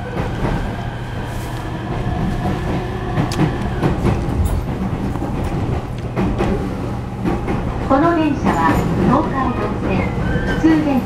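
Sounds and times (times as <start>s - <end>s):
wheel and rail rumble: 0.0s - 11.0s.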